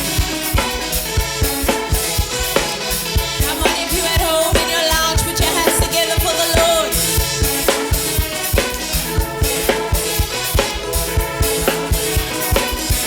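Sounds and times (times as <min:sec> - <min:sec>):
drum kit beat: 0:00.0 - 0:13.0
worship band music: 0:00.0 - 0:13.0.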